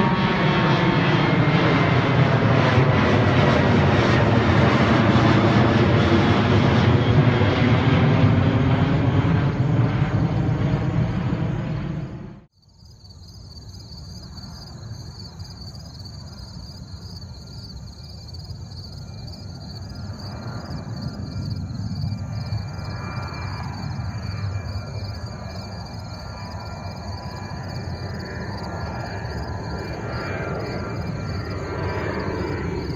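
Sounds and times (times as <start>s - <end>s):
jet airliner engines rumbling: 0.0s - 32.9s.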